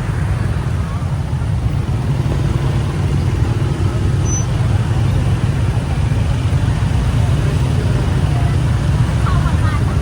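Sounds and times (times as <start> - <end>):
city traffic rumble: 0.0 - 10.0
crowd noise: 0.0 - 10.0.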